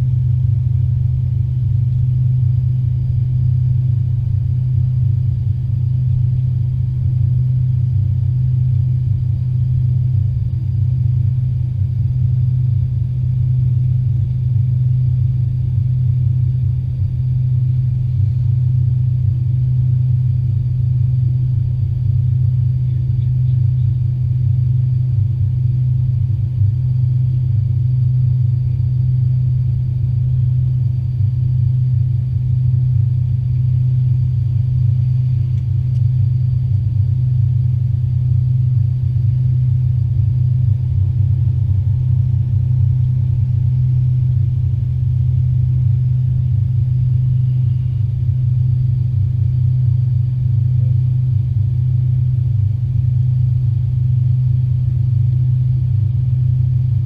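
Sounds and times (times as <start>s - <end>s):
airliner cabin drone: 0.0s - 57.0s
faint high whine: 0.0s - 57.0s.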